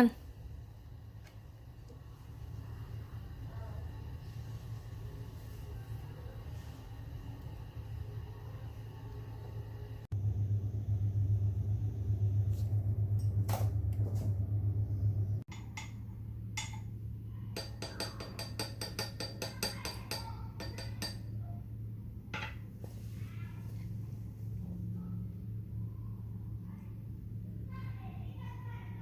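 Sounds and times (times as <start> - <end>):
steady low hum: 0.0 - 19.1, 20.0 - 29.0.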